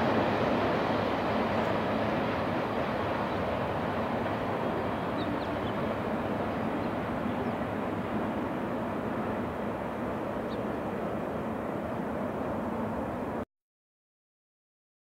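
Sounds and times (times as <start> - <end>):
freight train wheels rumbling: 0.0 - 13.4.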